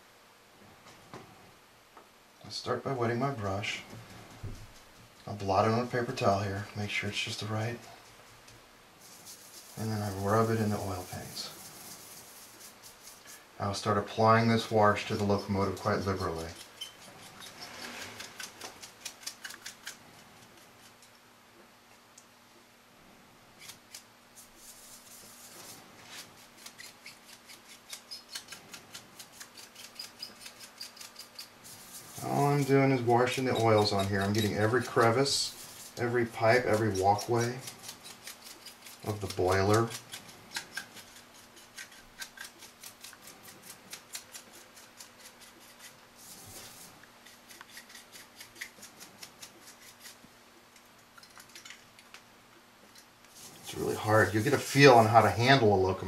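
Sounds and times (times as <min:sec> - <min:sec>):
paint brush bristles rasping: 0:03.6 - 0:21.0, 0:23.6 - 0:50.2, 0:53.3 - 0:55.7.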